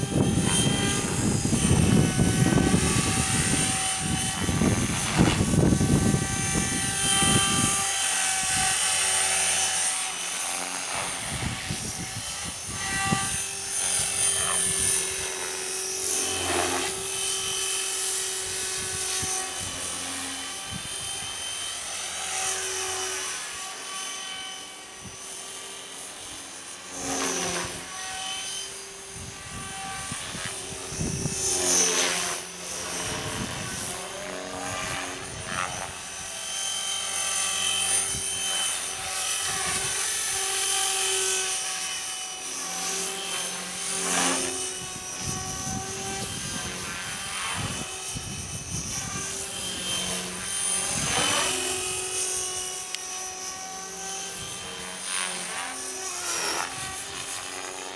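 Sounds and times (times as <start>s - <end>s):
model helicopter whine: 0.0s - 57.9s.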